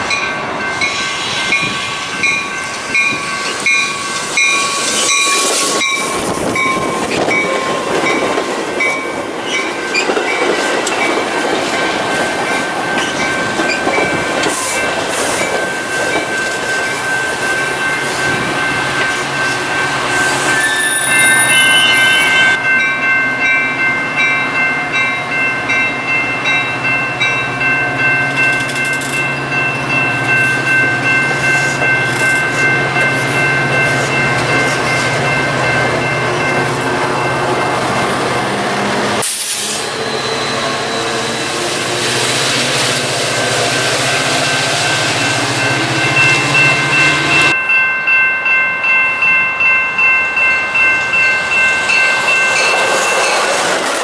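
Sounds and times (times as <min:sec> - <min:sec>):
grade crossing bell ringing: 0:00.0 - 0:38.4, 0:43.6 - 0:54.0
train wheels on rails: 0:00.0 - 0:47.8, 0:48.9 - 0:54.0.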